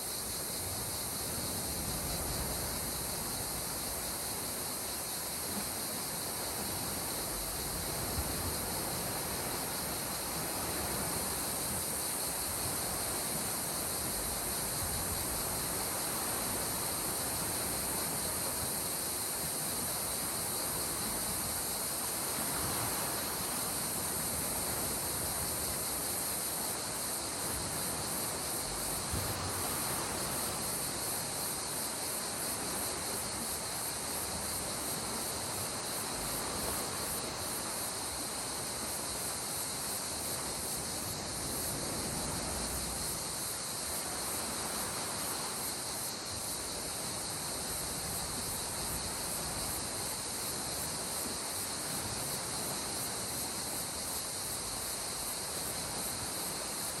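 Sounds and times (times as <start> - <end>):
gentle sea waves on shore: 0.0 - 57.0
high-pitched insect chorus: 0.0 - 57.0.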